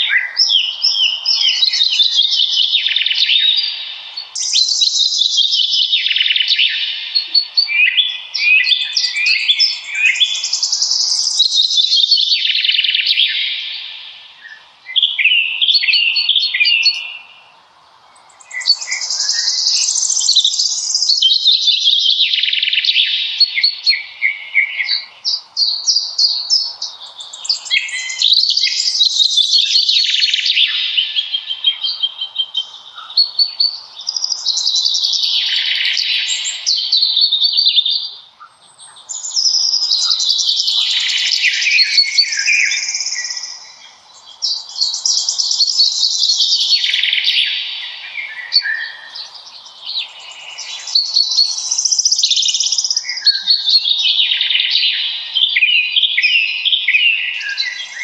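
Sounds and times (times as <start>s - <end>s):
songbirds warbling: 0.0s - 58.0s.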